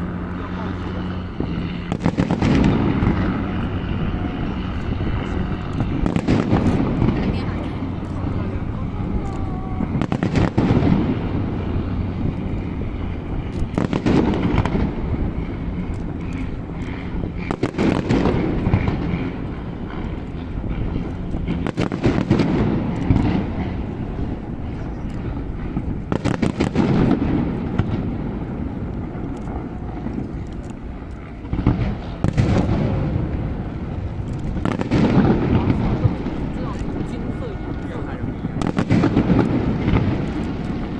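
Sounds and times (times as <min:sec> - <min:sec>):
firework crackling: 0:00.0 - 0:40.9
firework shells bursting: 0:00.0 - 0:40.9.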